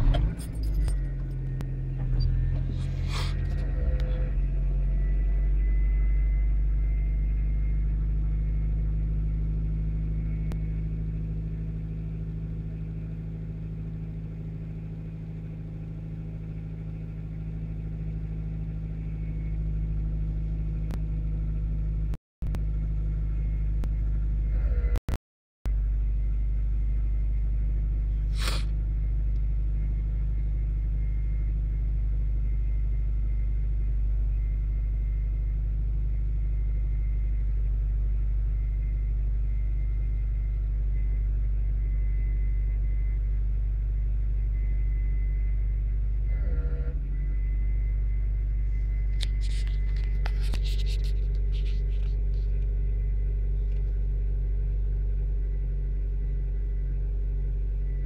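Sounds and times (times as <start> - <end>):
car engine idling: 0.0 - 24.7, 25.7 - 58.0.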